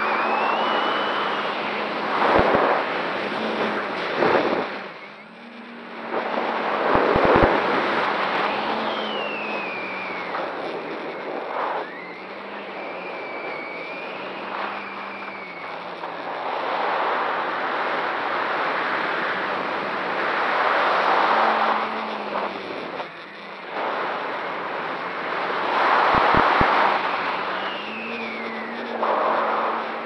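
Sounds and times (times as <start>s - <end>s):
propeller whistle: 0.0s - 18.1s, 20.0s - 30.0s
drone propellers rushing air: 0.0s - 30.0s
low propeller hum: 0.0s - 30.0s.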